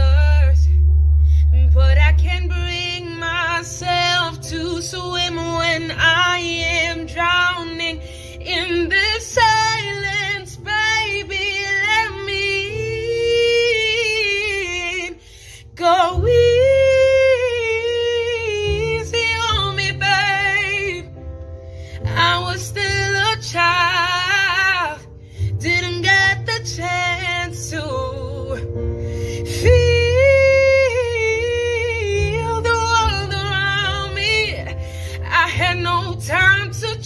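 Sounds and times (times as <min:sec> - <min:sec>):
woman singing: 0:00.0 - 0:00.8, 0:01.5 - 0:21.2, 0:22.0 - 0:28.8, 0:29.4 - 0:37.0.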